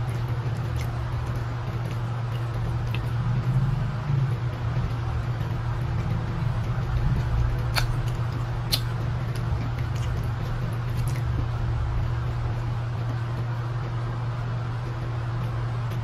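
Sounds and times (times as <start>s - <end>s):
eating and chewing: 0.0s - 16.0s
steady low hum: 0.0s - 16.0s.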